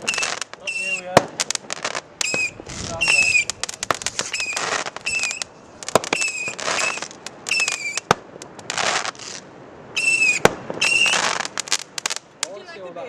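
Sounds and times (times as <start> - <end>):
firework whistles: 0.0 - 12.2
firework bangs: 0.0 - 12.7
fireworks hissing and crackling: 0.0 - 13.0.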